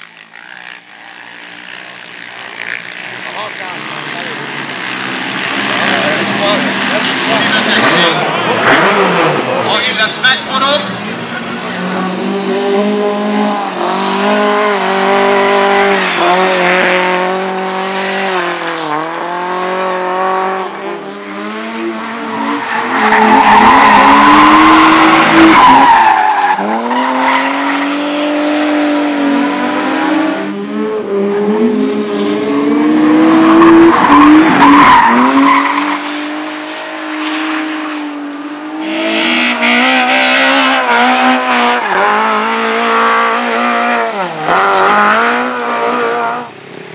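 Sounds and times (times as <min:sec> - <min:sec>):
racing car engines revving: 0:00.0 - 0:46.9.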